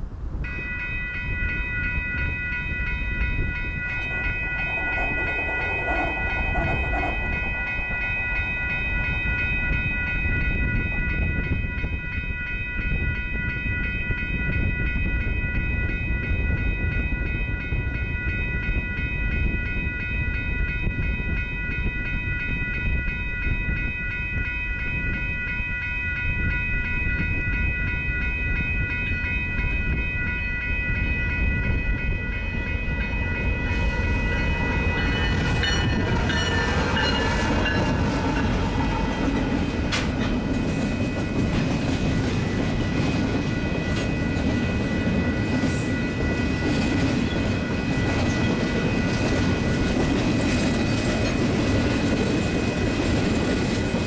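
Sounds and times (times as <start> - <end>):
freight train rumbling past: 0.0 - 54.0
high-pitched ringing: 0.4 - 54.0.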